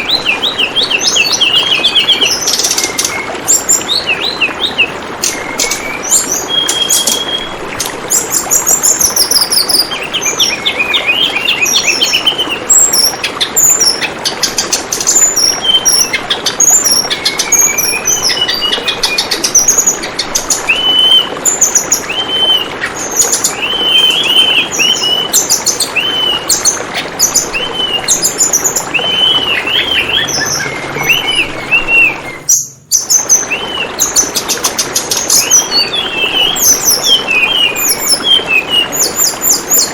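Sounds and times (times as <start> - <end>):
birds chirping and whistling: 0.0 - 39.9
flowing water: 0.0 - 39.9.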